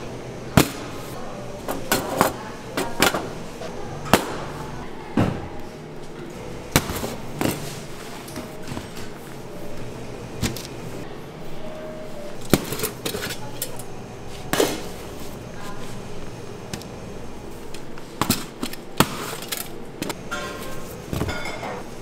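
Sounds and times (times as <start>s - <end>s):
steady background noise: 0.0s - 22.0s.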